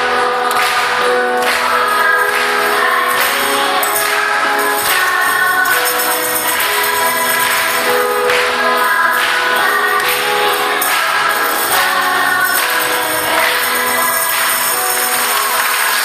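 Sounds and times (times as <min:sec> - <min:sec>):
choral worship song: 0:00.0 - 0:16.0
tambourines jingling: 0:01.4 - 0:16.0.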